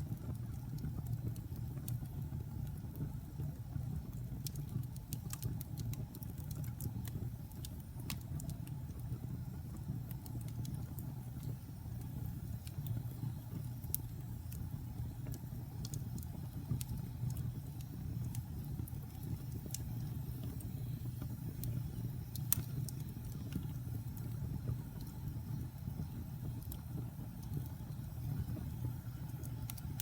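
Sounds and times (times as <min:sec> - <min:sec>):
fire rumbling: 0:00.0 - 0:30.0
logs crackling and popping: 0:00.0 - 0:30.0.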